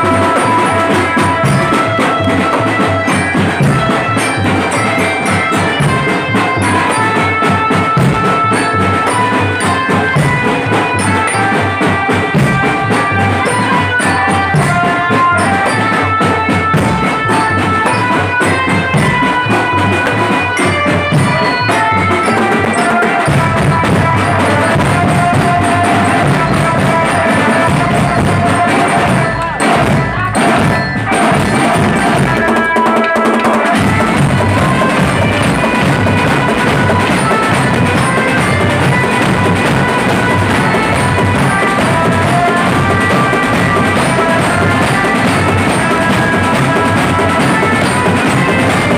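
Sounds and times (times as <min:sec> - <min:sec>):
held notes on keyed instruments: 0:00.0 - 0:48.9
marching drums: 0:00.0 - 0:48.9.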